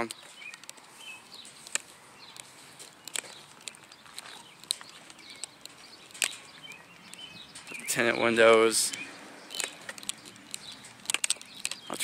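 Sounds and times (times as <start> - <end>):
slow footsteps: 0.0 - 12.0
small birds chirping faintly: 0.0 - 12.0.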